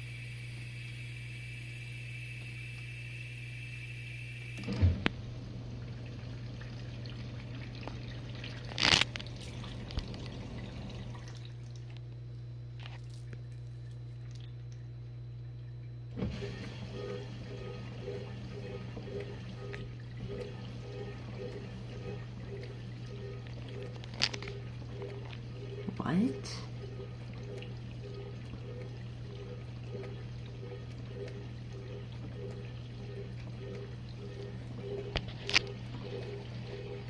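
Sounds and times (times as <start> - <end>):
dishwasher motor hum: 0.0 - 37.0.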